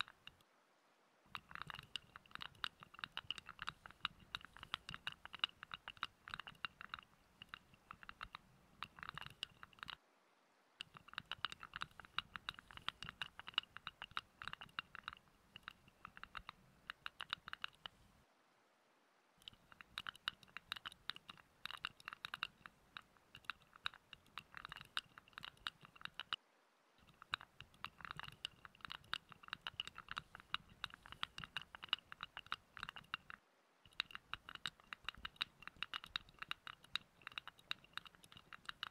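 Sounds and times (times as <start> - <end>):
fingers scratching and rubbing: 0.0 - 0.4, 1.3 - 10.0, 10.8 - 18.2, 19.4 - 26.4, 27.0 - 38.9.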